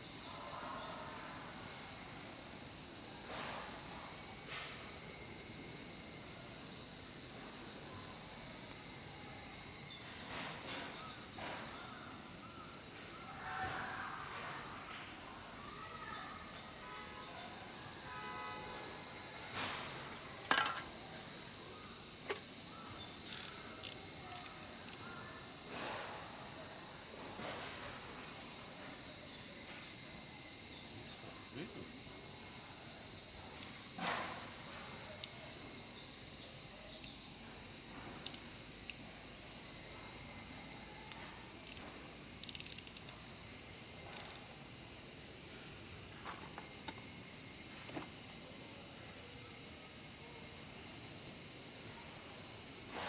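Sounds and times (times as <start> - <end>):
insects chorus: 0.0 - 53.0.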